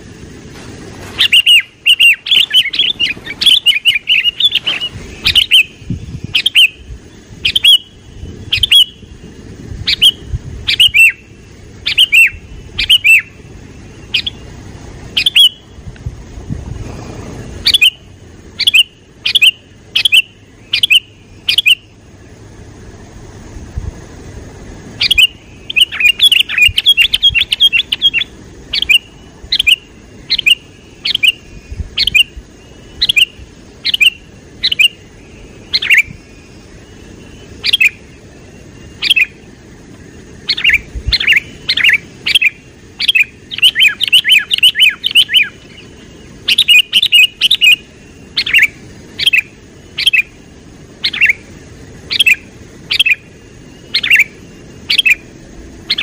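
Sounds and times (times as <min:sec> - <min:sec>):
bird chirping: 0:01.0 - 0:56.0.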